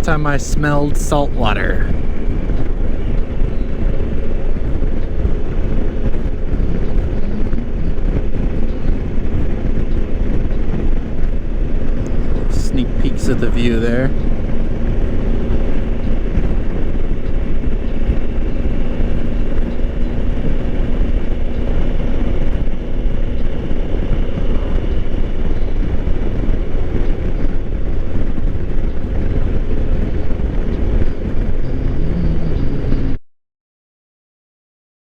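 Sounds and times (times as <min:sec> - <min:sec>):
motorcycle engine droning: 0:00.0 - 0:33.2
wind buffeting microphone: 0:00.0 - 0:33.2.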